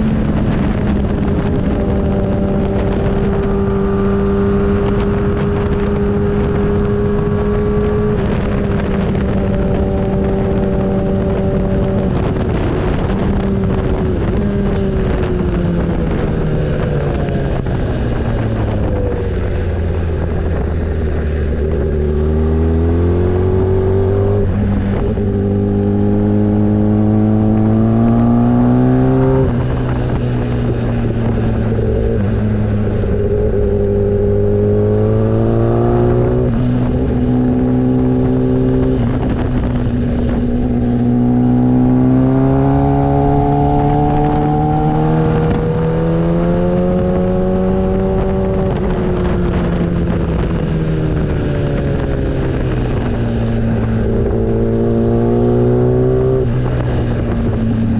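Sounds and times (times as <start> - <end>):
motorcycle engine shifting gears: 0.0 - 57.9
wind rush: 0.0 - 57.9.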